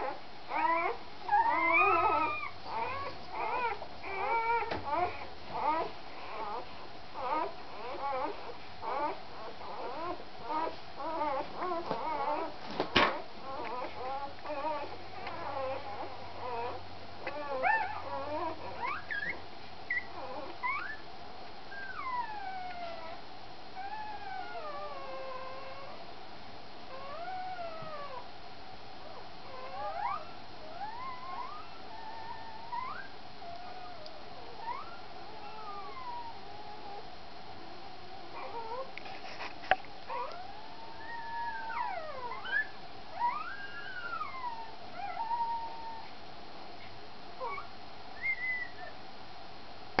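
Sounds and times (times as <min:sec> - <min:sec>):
puppies squeaking and whining: 0:00.0 - 0:21.0, 0:21.7 - 0:23.2, 0:23.8 - 0:26.0, 0:26.9 - 0:28.2, 0:29.4 - 0:37.0, 0:38.3 - 0:46.1, 0:47.4 - 0:49.0
faint steady hum: 0:00.0 - 0:50.0.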